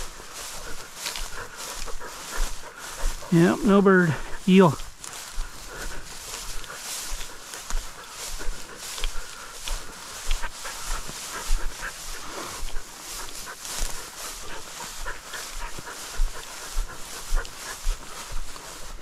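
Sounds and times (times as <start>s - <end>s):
dog panting: 0.0s - 19.0s
footsteps through tall grass: 0.0s - 19.0s
grass swishing: 0.0s - 19.0s.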